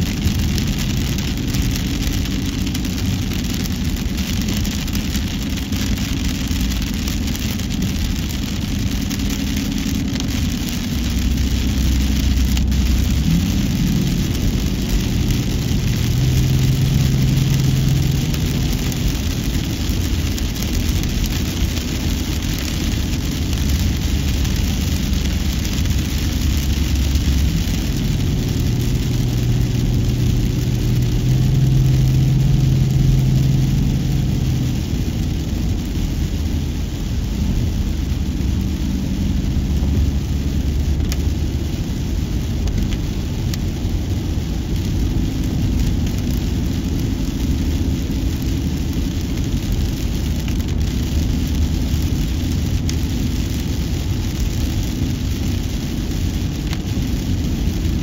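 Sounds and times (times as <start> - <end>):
car engine hum: 0.0 - 58.0
tyre road noise: 0.0 - 58.0.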